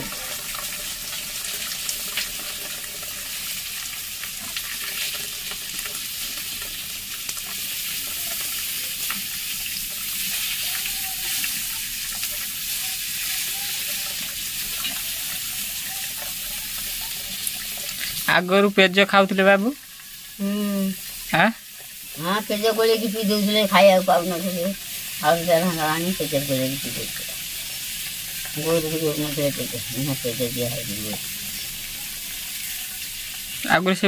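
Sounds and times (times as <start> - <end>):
water trickling into steel bowl: 0.0 - 33.7.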